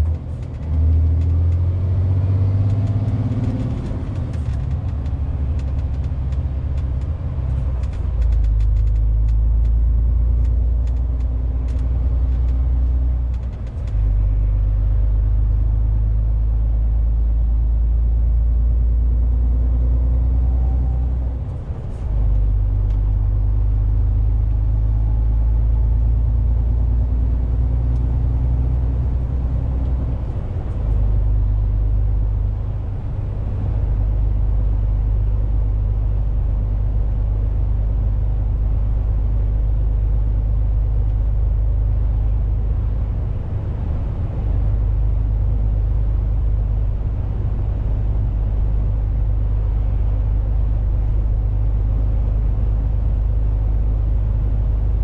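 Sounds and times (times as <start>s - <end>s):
road noise: 0.0s - 55.0s
truck diesel engine drone: 0.0s - 55.0s.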